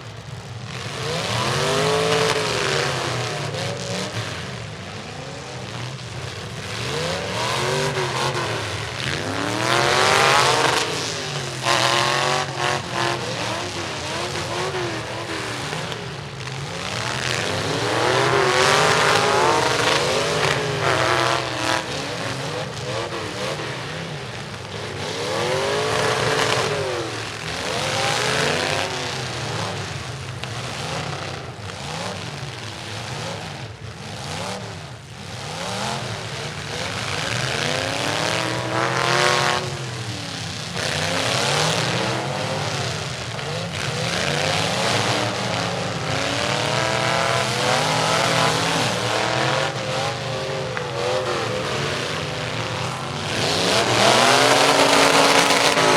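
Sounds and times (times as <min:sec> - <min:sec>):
truck engines revving: 0:00.0 - 0:55.9.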